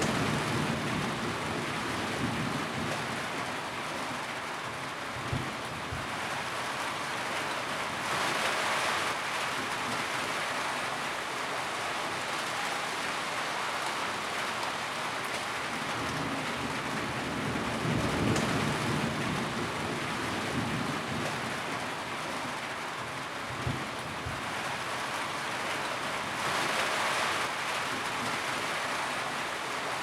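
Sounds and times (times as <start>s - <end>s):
rain drumming on a tin roof: 0.0s - 30.0s.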